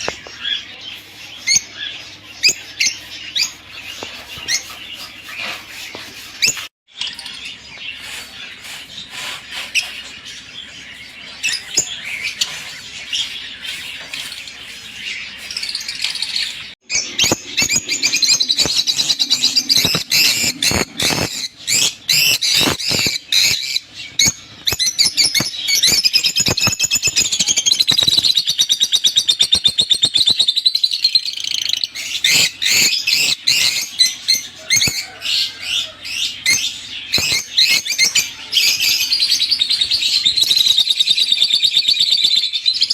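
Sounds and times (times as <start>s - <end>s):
lovebirds chirping and squawking: 0.0s - 42.9s.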